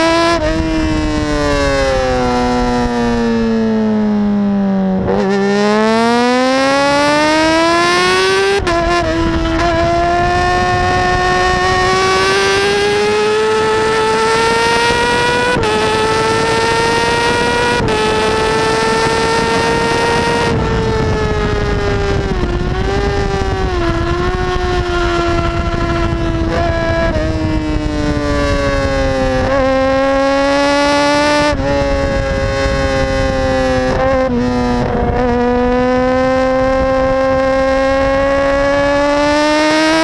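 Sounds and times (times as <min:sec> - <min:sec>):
heavy wind rush: 0:00.0 - 0:40.0
motorcycle engine accelerating: 0:00.0 - 0:40.0.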